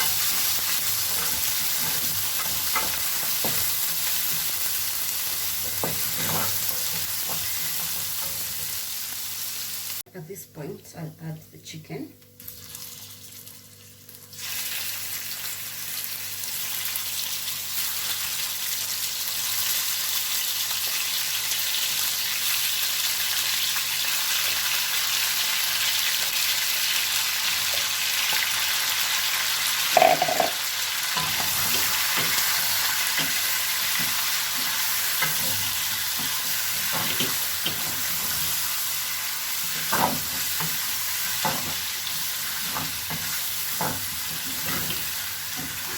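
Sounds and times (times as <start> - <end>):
chicken sizzling in hot oil: 0.0 - 10.0, 12.4 - 45.9.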